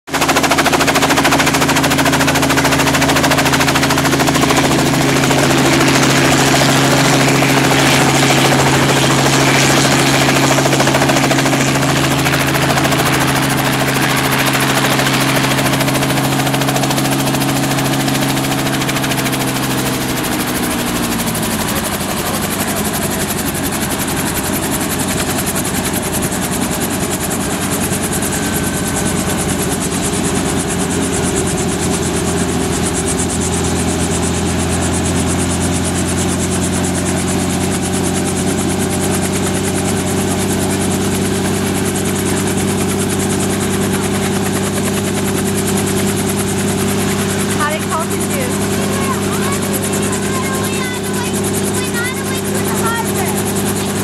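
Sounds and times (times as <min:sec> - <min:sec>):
helicopter engine and rotor: 0:00.1 - 0:54.0.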